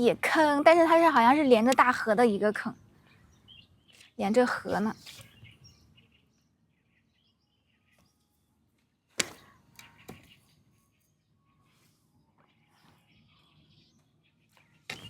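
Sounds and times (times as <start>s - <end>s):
faint bird chirps: 1.9s - 8.6s, 9.3s - 15.0s.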